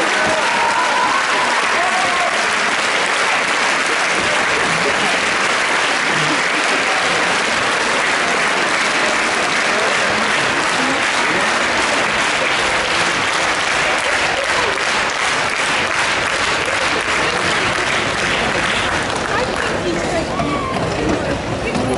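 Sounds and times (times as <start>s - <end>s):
audience applauding: 0.0s - 21.9s.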